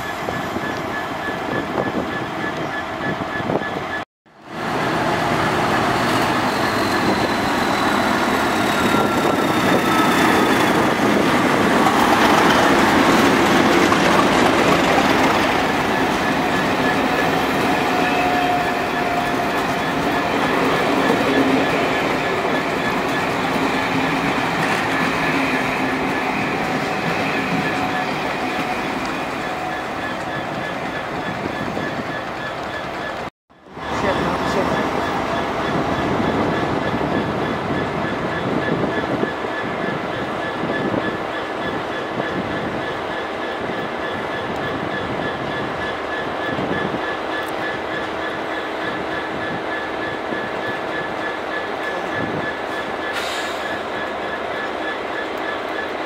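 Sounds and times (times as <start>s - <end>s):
train wheels rumbling on rail: 4.6s - 56.0s.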